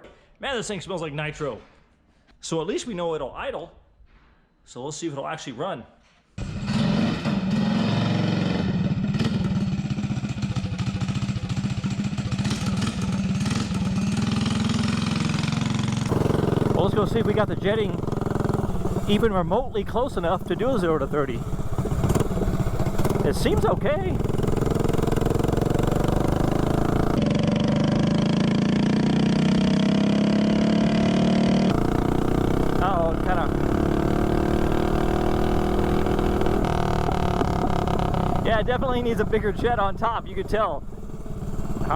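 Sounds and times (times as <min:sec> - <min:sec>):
small four-stroke engine running: 0:06.4 - 0:41.9.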